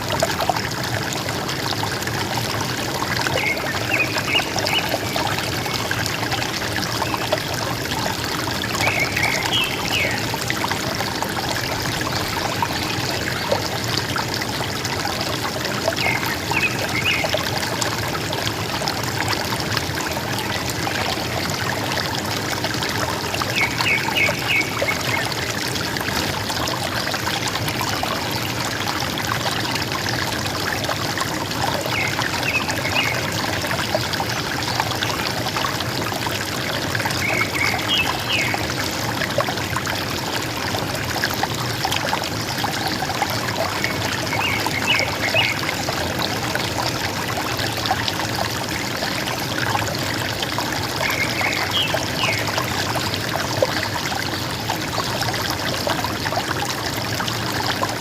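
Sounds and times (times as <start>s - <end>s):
river water gurgling: 0.0s - 58.0s.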